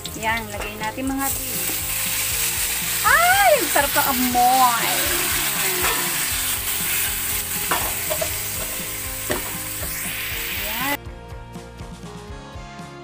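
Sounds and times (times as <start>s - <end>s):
chicken sizzling in a wok: 0.0s - 11.0s
background music: 0.0s - 13.0s.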